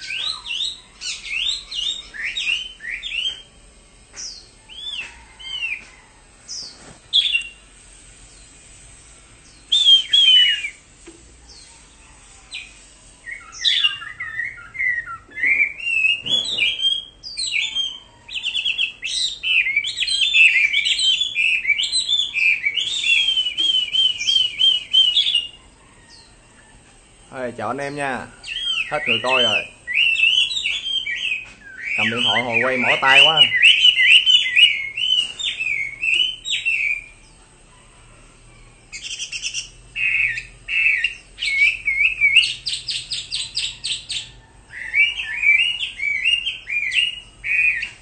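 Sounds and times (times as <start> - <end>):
bird singing whistled phrases: 0.0 - 3.5, 4.2 - 5.8, 6.5 - 7.6, 9.5 - 10.8, 12.5 - 26.3, 28.1 - 37.2, 38.9 - 48.0.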